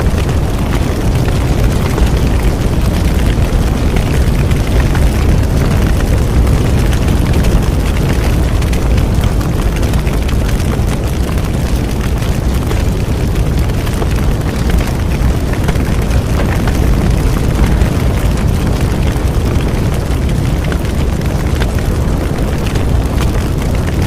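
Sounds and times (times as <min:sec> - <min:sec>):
bonfire flames rushing: 0:00.0 - 0:24.0
fire crackling and popping: 0:00.0 - 0:24.0.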